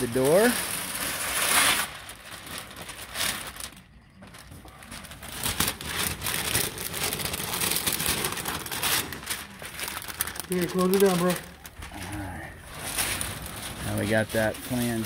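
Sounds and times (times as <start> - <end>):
masking paper rustling and crackling: 0.0 - 15.0.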